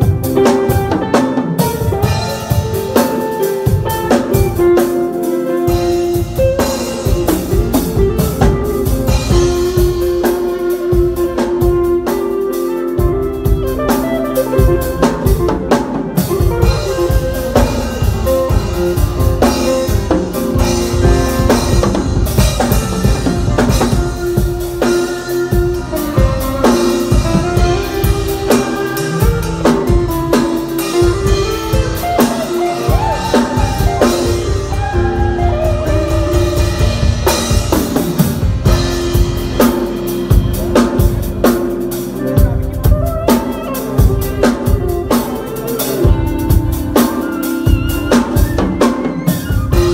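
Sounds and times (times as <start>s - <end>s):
live band playing: 0.0s - 49.9s.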